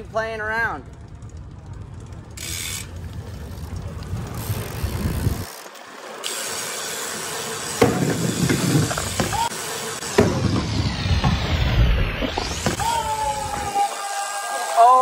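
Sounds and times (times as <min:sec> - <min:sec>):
bike rolling over stone paving: 0:00.9 - 0:13.9.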